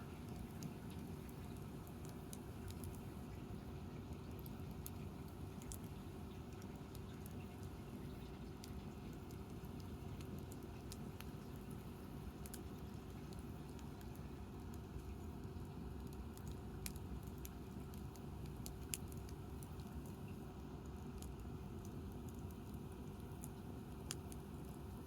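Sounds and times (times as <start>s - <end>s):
campfire crackling: 0.0s - 25.0s
fire low rumble: 0.0s - 25.0s.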